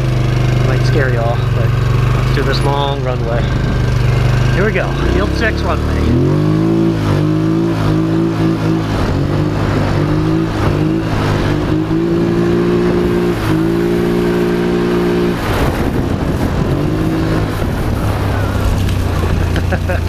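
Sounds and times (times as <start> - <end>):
atv engine revving: 0.0 - 20.0.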